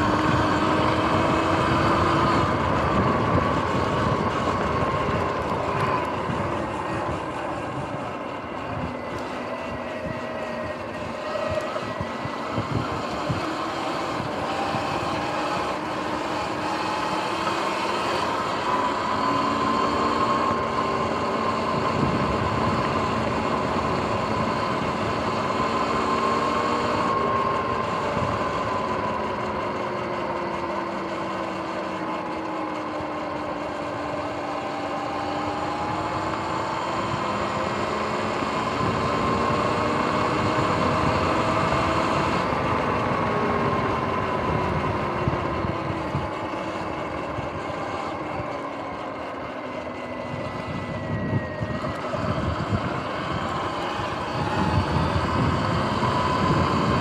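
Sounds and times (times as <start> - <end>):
electric motor whine: 0.0 - 57.0
tyre and wind noise: 0.0 - 57.0.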